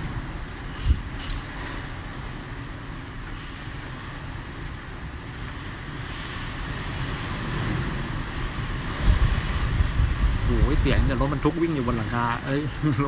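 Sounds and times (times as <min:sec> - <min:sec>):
strong wind rumbling: 0:00.0 - 0:13.0.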